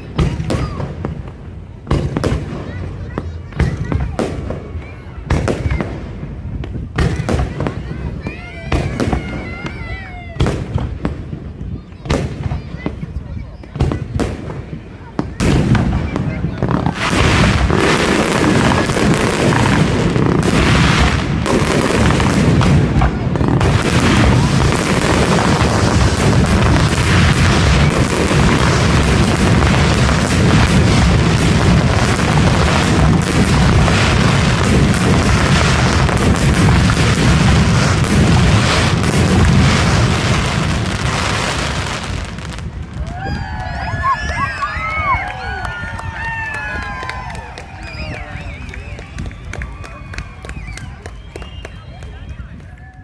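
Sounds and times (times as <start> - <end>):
fireworks booming: 0.0 - 44.0.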